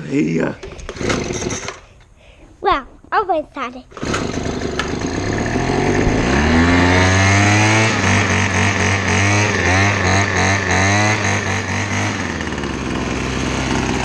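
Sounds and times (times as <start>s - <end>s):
small engine starting and running: 0.6s - 2.0s, 3.9s - 14.0s.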